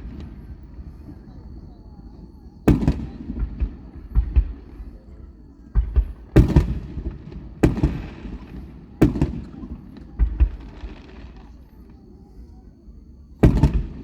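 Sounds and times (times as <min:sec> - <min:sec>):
firework booms: 0:00.0 - 0:12.3, 0:13.4 - 0:14.0
faint hissing crackle: 0:00.0 - 0:14.0.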